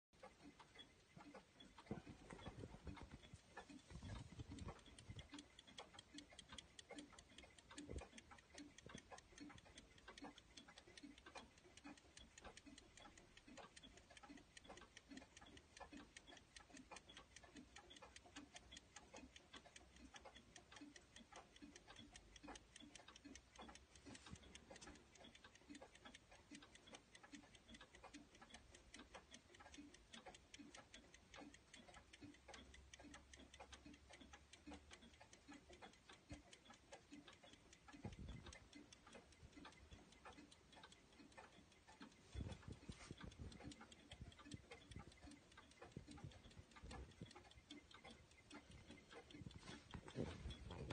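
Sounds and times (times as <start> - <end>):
clock ticking: 0.2 - 50.9.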